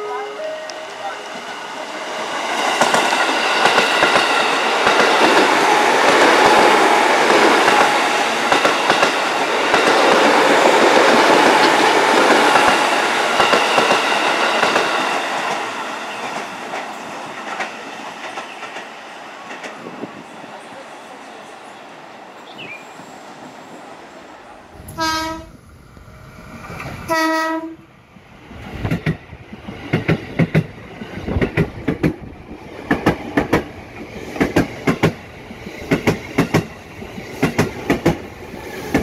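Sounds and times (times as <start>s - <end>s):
train passing: 0.0s - 39.0s.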